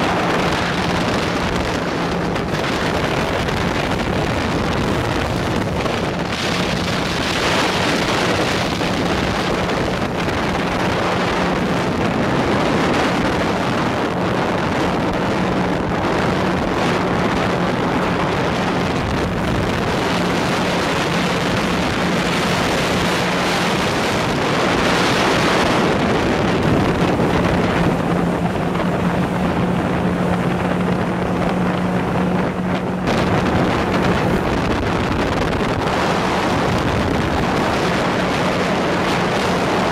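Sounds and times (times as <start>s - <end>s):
speedboat engine drone: 0.0s - 39.9s
water rushing off hull: 0.0s - 39.9s
wind buffeting microphone: 0.0s - 39.9s.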